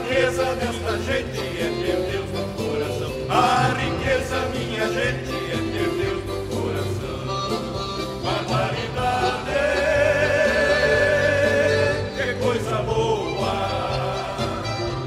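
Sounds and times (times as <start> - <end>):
instrumental accompaniment: 0.0 - 15.0
person singing: 0.0 - 15.0
steady bass line: 0.0 - 15.0.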